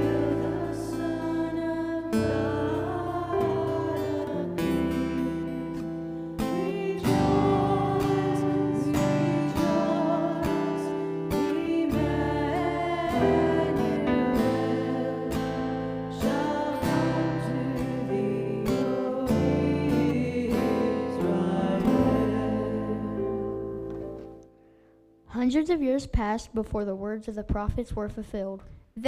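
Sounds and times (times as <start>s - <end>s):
person singing: 0.0s - 23.8s
strummed acoustic guitar: 0.0s - 24.4s.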